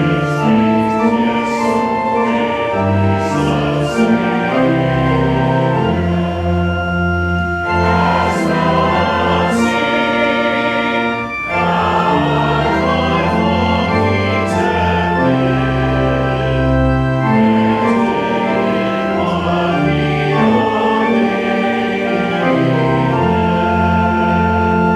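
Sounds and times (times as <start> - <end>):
congregation singing a hymn: 0.0 - 24.9
pipe organ chords: 0.0 - 24.9.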